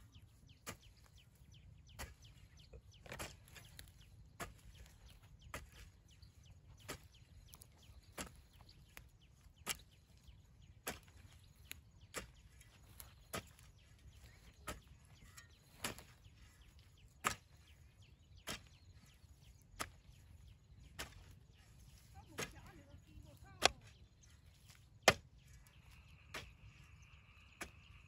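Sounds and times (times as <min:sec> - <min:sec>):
metal hoe chopping dry soil: 0:00.1 - 0:28.0.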